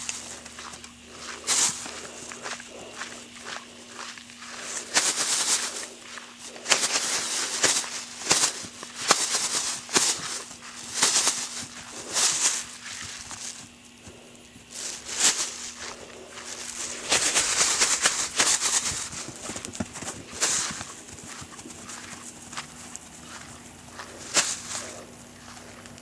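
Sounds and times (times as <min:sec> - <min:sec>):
pony hooves on grass: 0:00.0 - 0:26.0.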